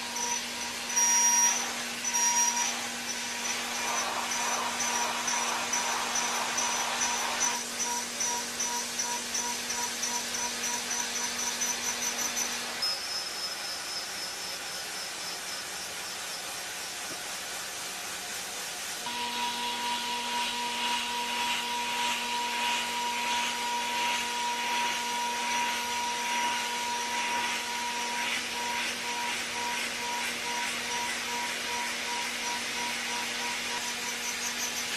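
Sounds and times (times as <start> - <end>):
milling machine cutting hiss: 0.0 - 34.9
milling machine whine: 0.0 - 34.9.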